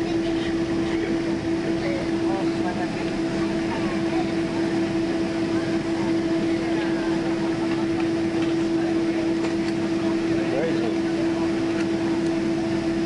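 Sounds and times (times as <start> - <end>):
aircraft cabin engine noise: 0.0 - 13.0.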